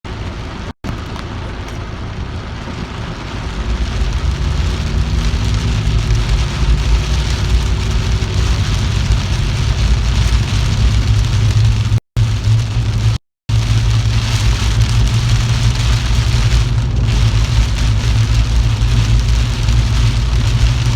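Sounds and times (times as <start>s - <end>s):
rain falling: 0.1s - 20.9s
vehicle engine and road rumble: 0.1s - 20.9s.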